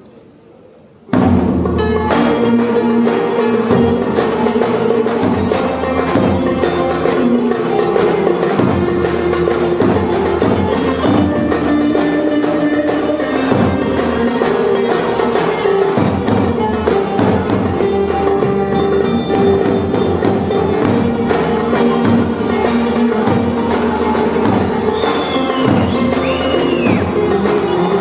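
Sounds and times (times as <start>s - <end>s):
folk ensemble instrumental: 0.0s - 28.0s
steady percussion beat: 1.1s - 28.0s.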